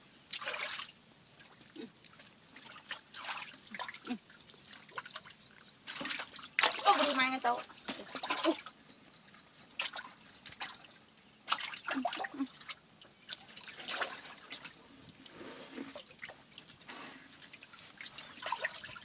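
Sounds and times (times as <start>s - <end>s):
water trickling: 0.2s - 19.0s.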